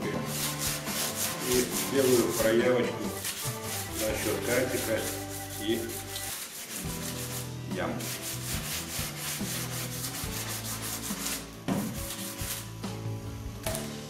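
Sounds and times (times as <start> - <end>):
sanding block scrubbing car panel: 0.3 - 12.7.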